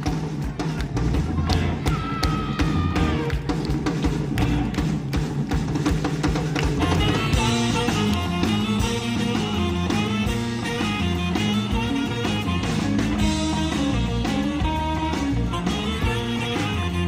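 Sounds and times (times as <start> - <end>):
live surf rock band: 0.0 - 17.0.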